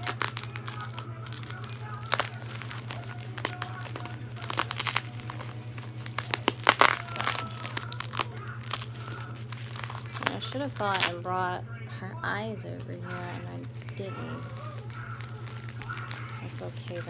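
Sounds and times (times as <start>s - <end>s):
plastic packaging crinkling: 0.0s - 11.6s, 12.6s - 17.0s
steady low hum: 0.0s - 17.0s.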